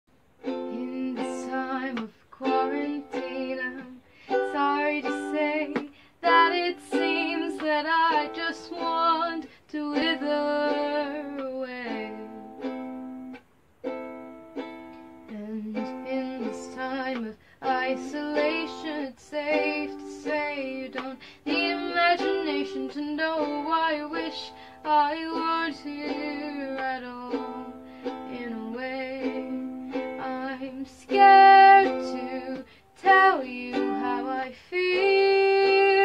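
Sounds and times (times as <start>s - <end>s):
ukulele: 0.2s - 36.0s
woman singing soprano: 0.5s - 12.5s, 15.3s - 36.0s.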